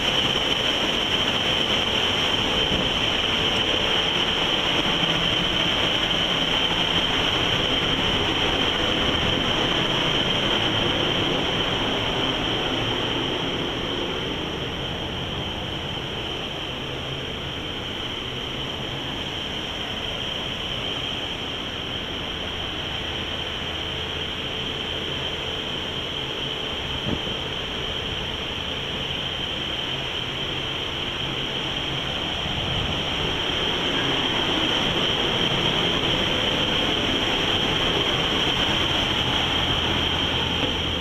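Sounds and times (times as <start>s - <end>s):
boat engine rumble: 0.0s - 41.0s
rushing water: 0.0s - 41.0s
steady high whine: 0.0s - 41.0s.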